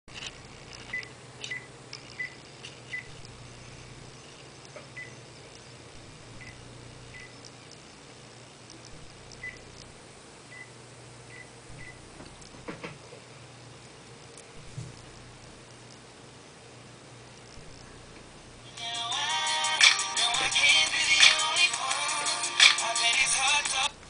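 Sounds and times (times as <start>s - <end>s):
steady low hum: 0.1s - 24.0s.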